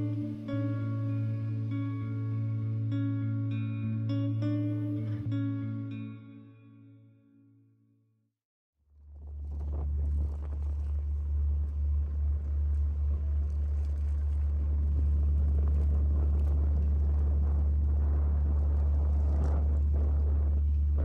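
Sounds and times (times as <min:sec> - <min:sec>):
vehicle rumble: 0:00.0 - 0:06.4, 0:08.9 - 0:21.0.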